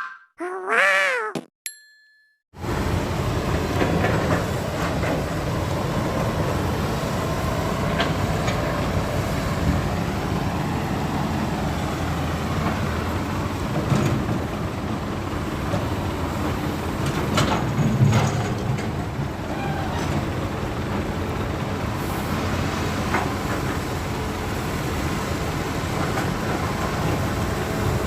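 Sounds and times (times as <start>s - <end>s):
diesel machinery running: 2.6s - 28.0s.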